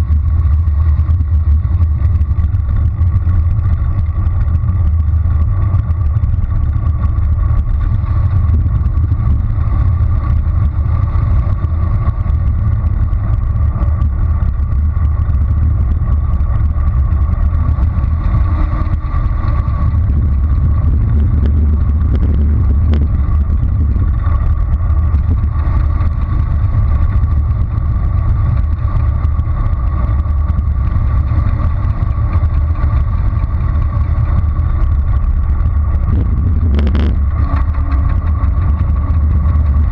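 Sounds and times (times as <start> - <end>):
bicycle tyre rumble on pavement: 0.0 - 39.9
faint constant hum: 0.0 - 39.9
wind rush: 0.0 - 39.9.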